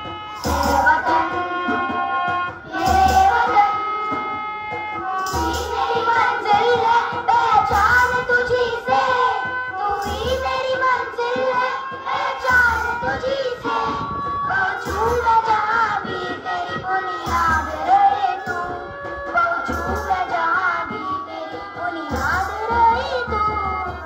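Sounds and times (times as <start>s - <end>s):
children's choir singing: 0.0s - 24.0s
instrumental accompaniment: 0.0s - 24.0s.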